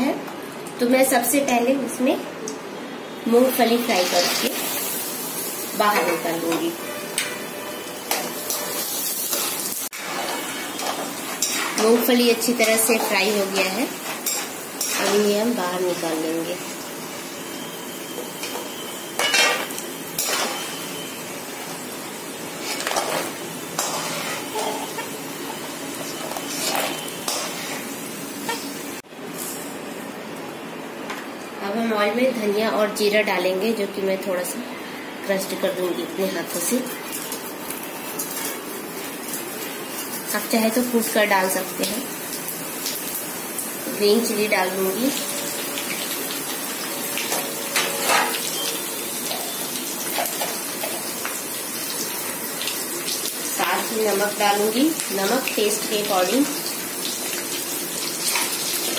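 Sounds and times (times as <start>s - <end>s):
peanuts sizzling in hot oil: 3.3s - 29.0s, 36.4s - 58.9s.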